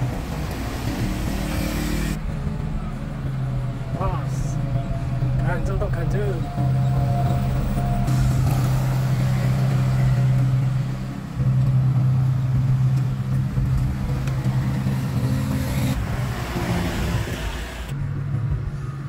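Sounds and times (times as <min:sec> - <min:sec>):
road roller diesel engine drone: 0:00.0 - 0:18.0.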